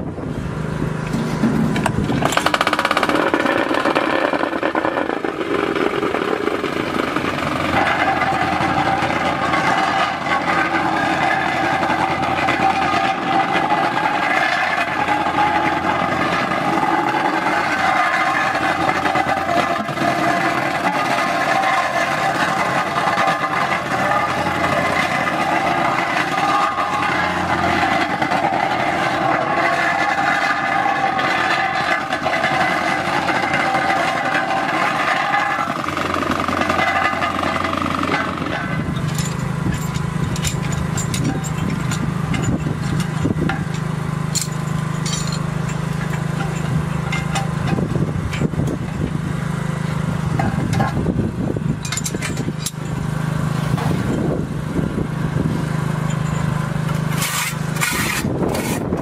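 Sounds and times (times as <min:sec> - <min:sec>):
plate compactor running: 0:00.0 - 0:59.0.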